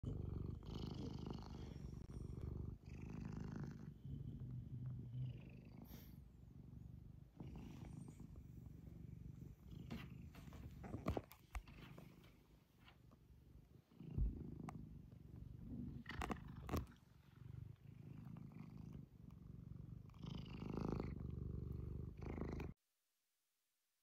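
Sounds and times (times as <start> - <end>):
cat purring: 0.0 - 22.8.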